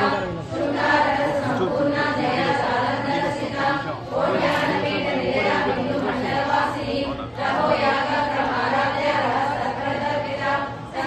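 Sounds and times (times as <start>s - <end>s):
women singing in unison: 0.0s - 11.0s.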